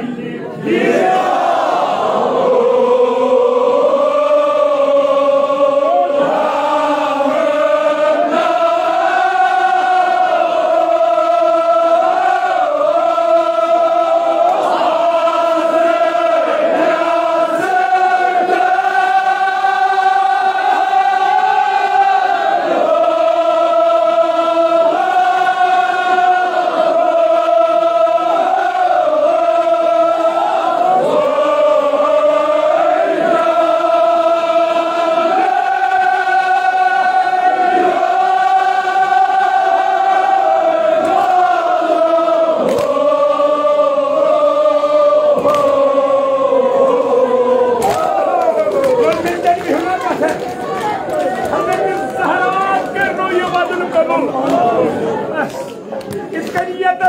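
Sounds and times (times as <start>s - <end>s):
group chanting in unison: 0.0s - 57.0s.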